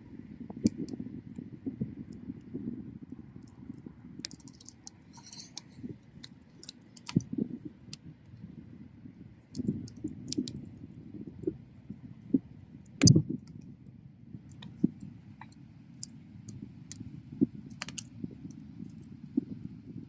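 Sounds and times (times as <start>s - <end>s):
bonfire flames rumbling: 0.0s - 20.0s
burning wood crackling and popping: 0.1s - 20.0s.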